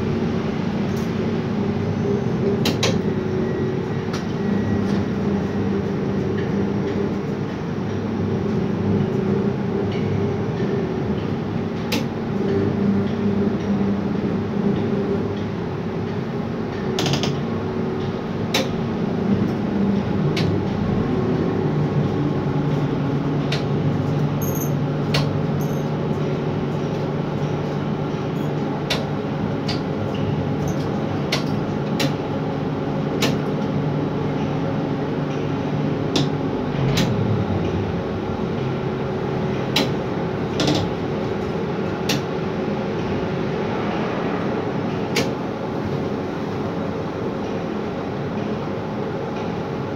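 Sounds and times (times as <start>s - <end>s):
crane machine hum: 0.0s - 49.9s.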